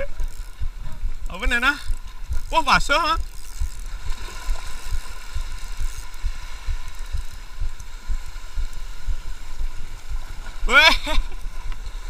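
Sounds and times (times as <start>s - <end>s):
low thumps: 0.0s - 11.9s
fishing reel whirring: 0.0s - 12.0s.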